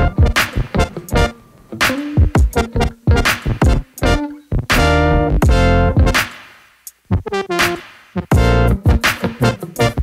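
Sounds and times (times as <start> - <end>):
electronic music with drum-machine beat: 0.0 - 10.0.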